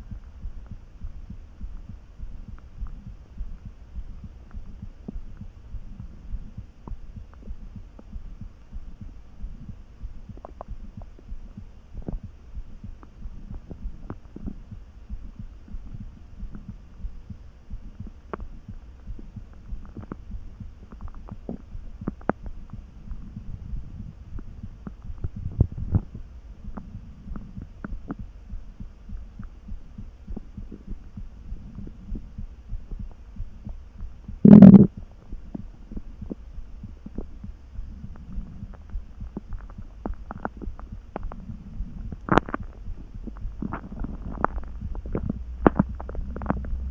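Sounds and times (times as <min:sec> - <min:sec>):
stomach rumbling and gurgling: 0:00.0 - 0:46.9.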